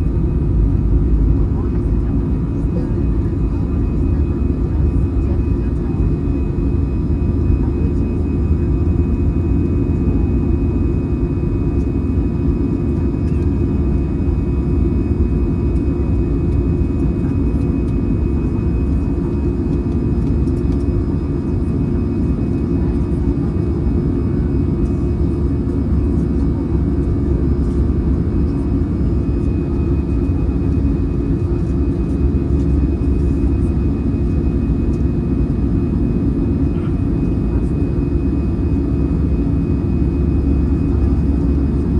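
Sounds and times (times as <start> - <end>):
jet engines deep rumble: 0.0 - 41.9.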